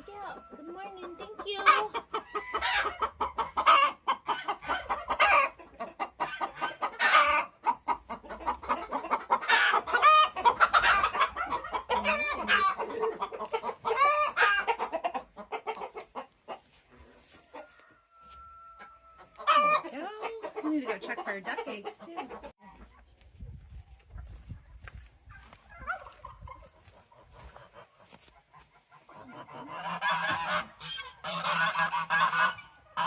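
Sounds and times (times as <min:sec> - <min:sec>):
chickens clucking: 0:00.0 - 0:33.0
drawn-out chicken calls: 0:00.0 - 0:33.0.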